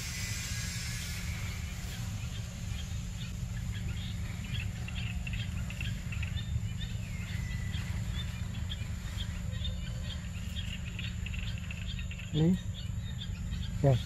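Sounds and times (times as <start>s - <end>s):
low rumble: 0.0s - 13.8s
bird chirps: 0.0s - 14.0s
high insect tone: 0.0s - 14.0s.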